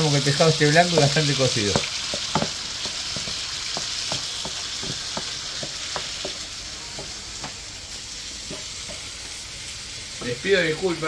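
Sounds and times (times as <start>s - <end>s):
fish frying in a pan: 0.0s - 11.0s.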